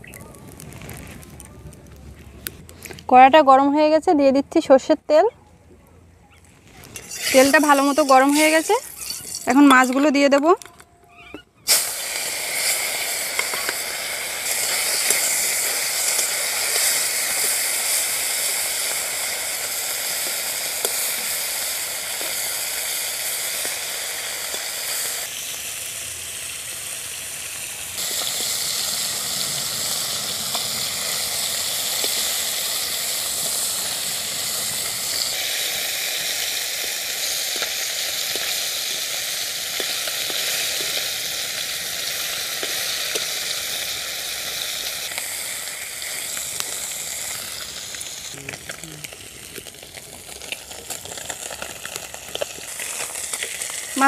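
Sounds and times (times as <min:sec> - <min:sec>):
fish sizzling in hot oil: 0:06.9 - 0:10.2, 0:11.6 - 0:54.0.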